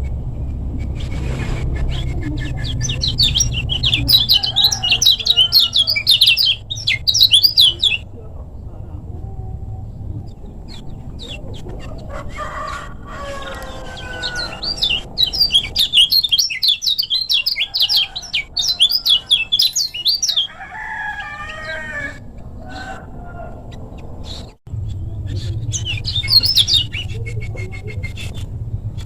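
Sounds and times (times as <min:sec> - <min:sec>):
steady low hum: 0:00.0 - 0:20.5, 0:22.2 - 0:29.0
bird rapid high chirps: 0:00.8 - 0:08.1, 0:10.3 - 0:23.0, 0:23.8 - 0:29.0
lower wavering bird calls: 0:00.8 - 0:29.0.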